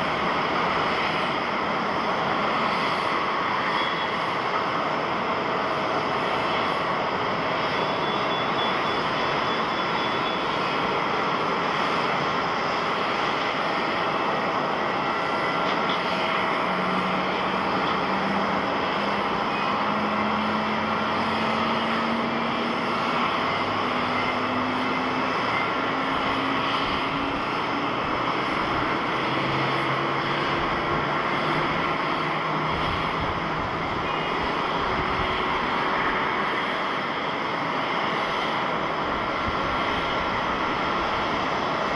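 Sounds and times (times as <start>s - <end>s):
jet engines running: 0.0s - 41.9s
whining engine tone: 0.0s - 41.9s.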